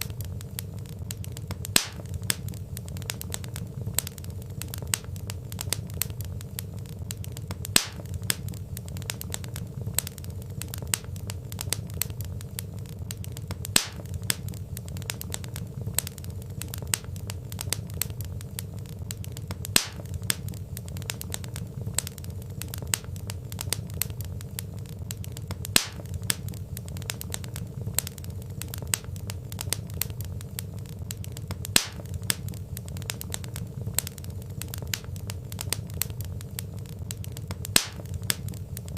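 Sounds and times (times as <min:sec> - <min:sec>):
logs popping: 0:00.0 - 0:38.9
wood fire crackling: 0:00.0 - 0:38.9.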